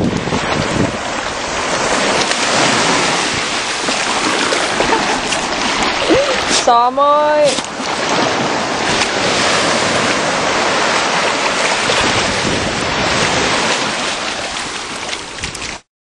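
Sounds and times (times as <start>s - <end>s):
sea waves washing onto beach: 0.0s - 15.8s.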